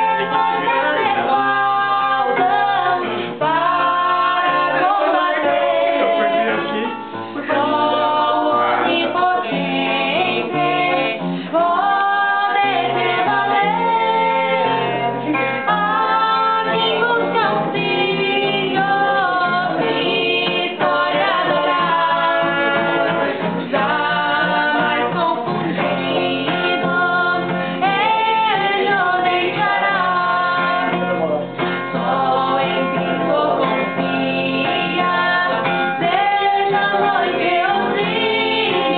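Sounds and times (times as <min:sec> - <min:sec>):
woman singing a hymn: 0:00.0 - 0:31.2, 0:31.9 - 0:38.9
instrumental accompaniment: 0:00.0 - 0:38.9.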